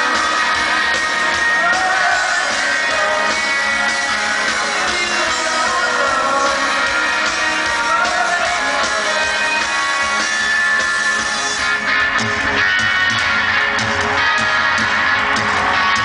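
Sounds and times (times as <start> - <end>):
live rock band playing loudly: 0.0 - 16.0.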